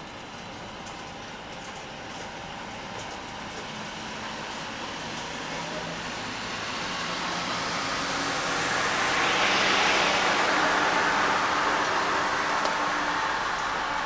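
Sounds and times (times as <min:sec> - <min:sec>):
steady rain: 0:00.0 - 0:14.0
tyres hissing on wet road: 0:00.1 - 0:14.0.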